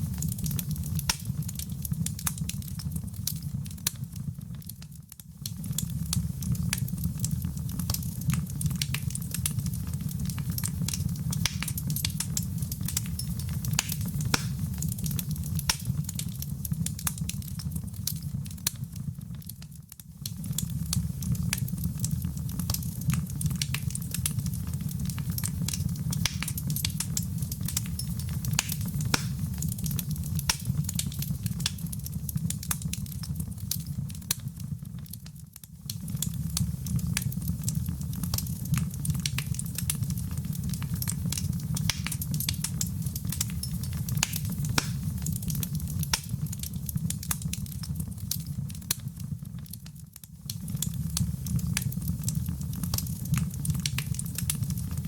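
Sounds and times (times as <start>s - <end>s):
fire crackling and popping: 0.0s - 55.0s
wood fire burning: 0.0s - 55.0s.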